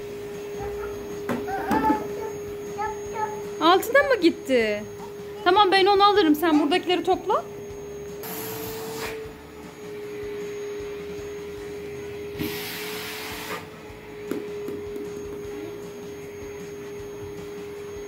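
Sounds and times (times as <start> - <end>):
vacuum cleaner humming: 0.0 - 18.0.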